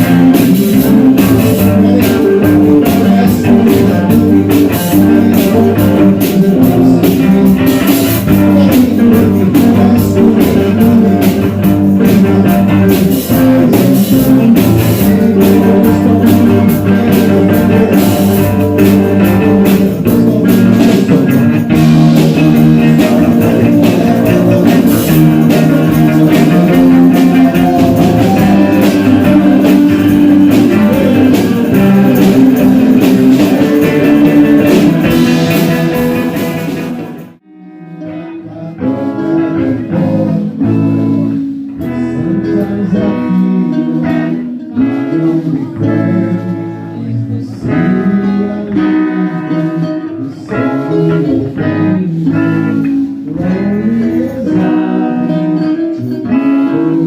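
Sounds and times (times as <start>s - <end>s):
quiet guitar picking: 0.0s - 57.0s
rock blues band music: 0.0s - 57.0s.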